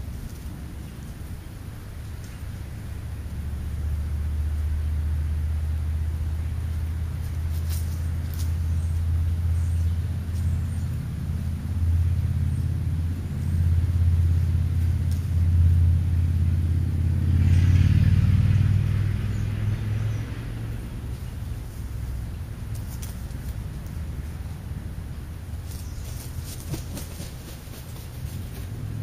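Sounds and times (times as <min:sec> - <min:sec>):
vehicle engine rumble: 0:00.0 - 0:29.0.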